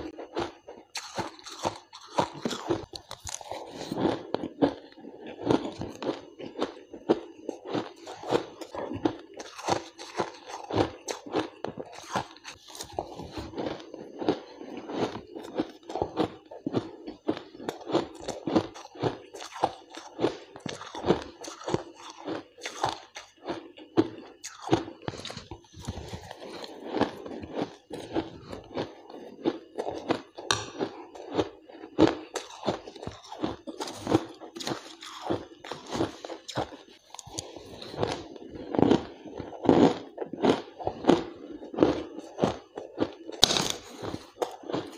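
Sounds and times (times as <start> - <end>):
person crunching shaved ice: 0.1 - 44.9.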